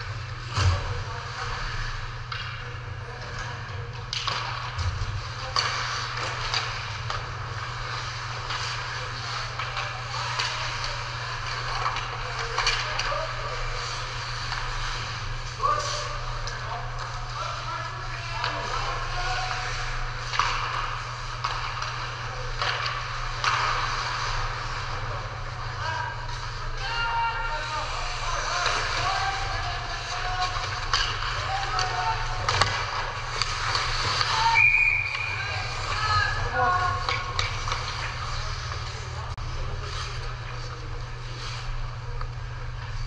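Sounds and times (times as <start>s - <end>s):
steady low hum: 0.0s - 43.0s
hockey sticks and puck clacking: 0.4s - 39.0s
skates scraping on ice: 4.2s - 43.0s.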